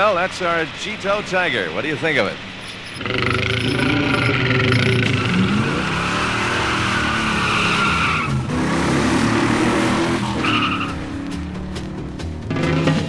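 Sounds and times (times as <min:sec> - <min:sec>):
car engine running hard: 0:00.0 - 0:13.0
tires squealing: 0:00.0 - 0:13.0.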